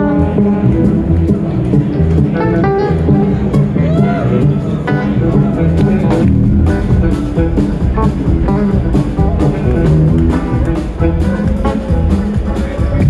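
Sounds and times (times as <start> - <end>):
bass guitar: 0.0 - 13.0
drum kit beat: 0.0 - 13.0
electric guitar lines: 0.0 - 13.0.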